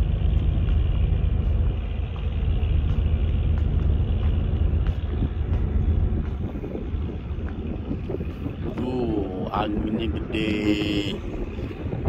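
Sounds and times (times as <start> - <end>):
ferry engine low rumble: 0.0 - 12.0
wind buffeting microphone: 0.0 - 12.0.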